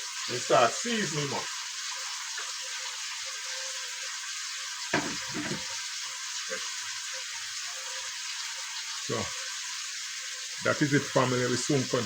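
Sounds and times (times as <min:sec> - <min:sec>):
soup boiling and bubbling: 0:00.0 - 0:12.0.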